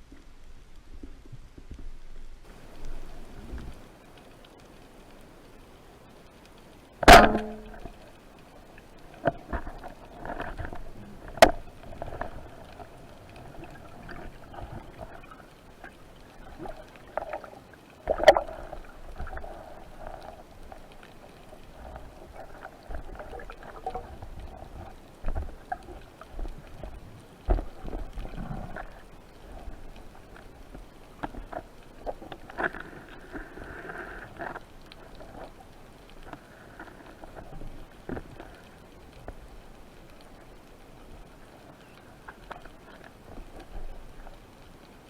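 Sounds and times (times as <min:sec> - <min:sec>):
muffled underwater water noise: 0:00.0 - 0:45.0.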